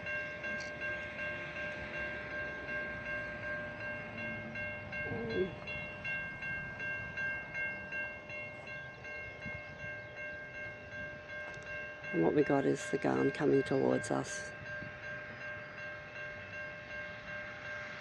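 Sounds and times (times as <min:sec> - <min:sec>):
level crossing warning bell: 0:00.0 - 0:18.0.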